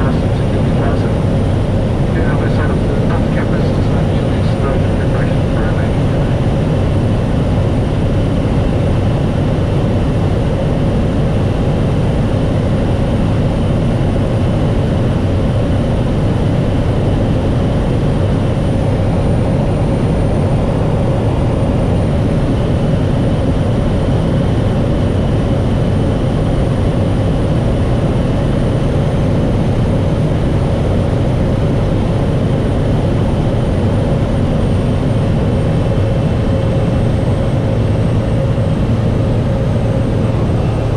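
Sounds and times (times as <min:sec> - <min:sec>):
propeller aircraft engine drone: 0:00.0 - 0:40.9.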